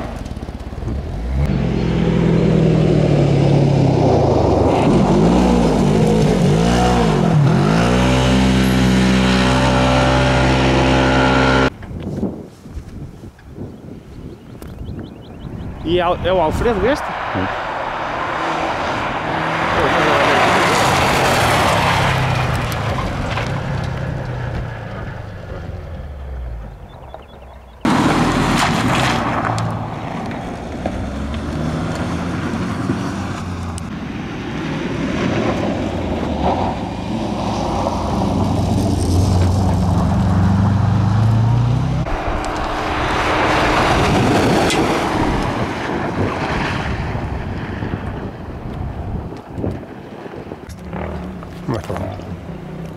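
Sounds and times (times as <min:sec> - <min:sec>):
cars passing by: 0:00.0 - 0:11.7, 0:15.0 - 0:52.9.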